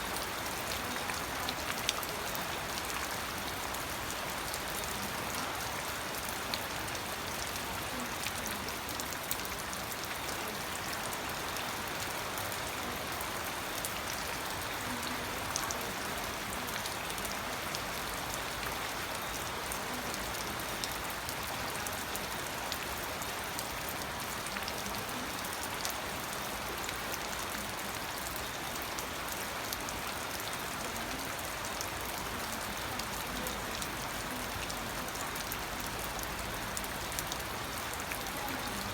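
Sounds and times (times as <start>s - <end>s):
raindrops ticking on a surface: 0.0s - 38.9s
steady rainfall: 0.0s - 38.9s.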